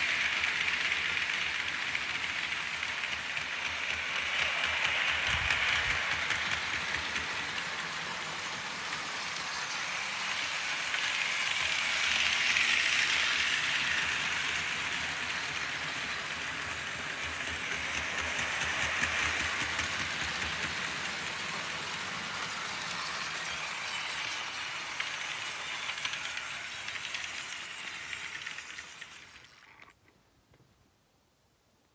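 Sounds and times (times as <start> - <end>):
model train wheels rattling on rails: 0.0 - 30.0.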